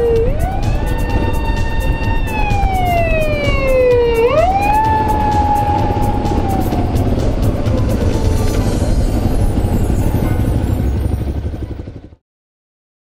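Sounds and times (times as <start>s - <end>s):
police siren wailing: 0.0s - 11.8s
motorcycle ride rumble and wind: 0.0s - 12.2s.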